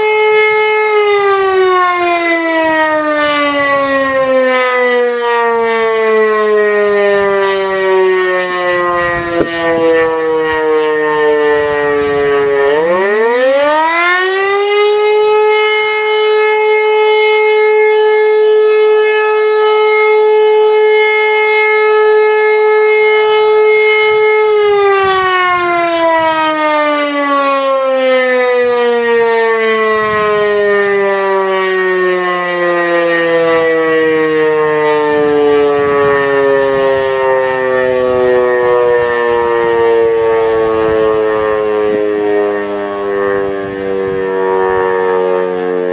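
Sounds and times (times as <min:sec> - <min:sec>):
siren wailing: 0:00.0 - 0:45.9.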